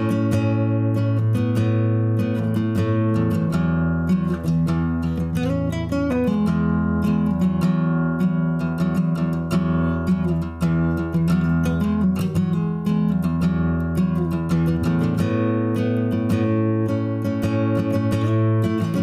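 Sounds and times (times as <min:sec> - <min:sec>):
strummed acoustic guitar music: 0:00.0 - 0:19.0.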